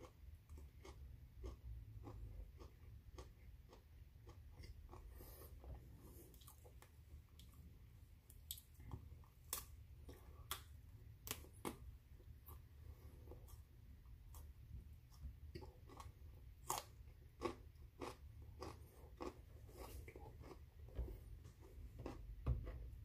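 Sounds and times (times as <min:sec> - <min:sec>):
crunching and chewing broccoli: 0:00.0 - 0:23.0
low steady hum: 0:00.0 - 0:23.0.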